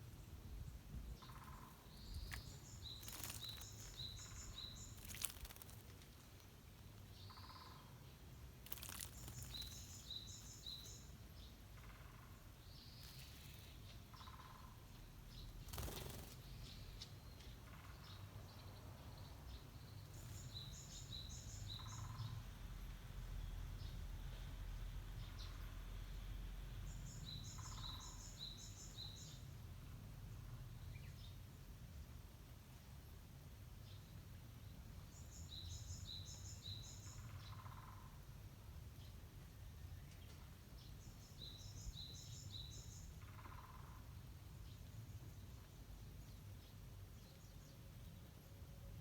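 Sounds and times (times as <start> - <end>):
small songbird singing: 0.0 - 22.6, 26.8 - 32.1, 33.7 - 49.0.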